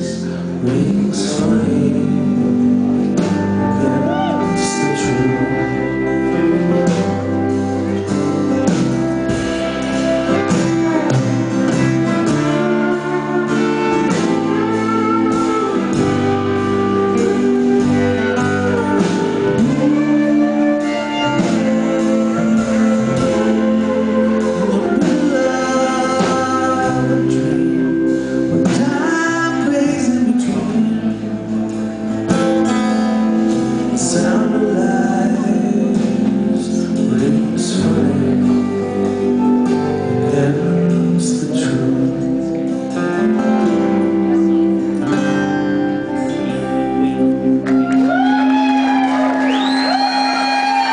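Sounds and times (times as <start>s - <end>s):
man singing: 0.0s - 47.7s
strummed acoustic guitar: 0.0s - 47.7s
electric guitar: 0.0s - 50.9s.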